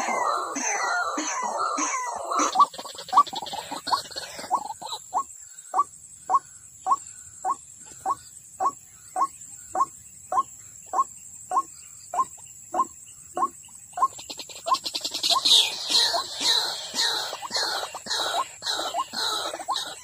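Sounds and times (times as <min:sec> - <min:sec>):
waterhen calling: 0:00.0 - 0:20.0.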